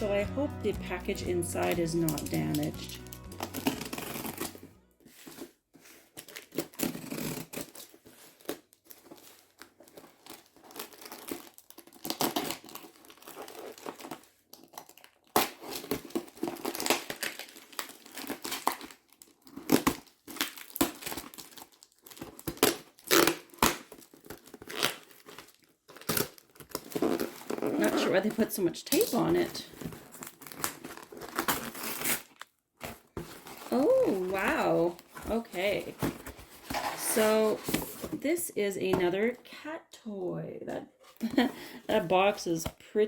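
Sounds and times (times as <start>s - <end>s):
cardboard and packaging rustling: 0.0s - 39.4s
packing tape tearing: 1.6s - 4.7s, 6.1s - 38.1s.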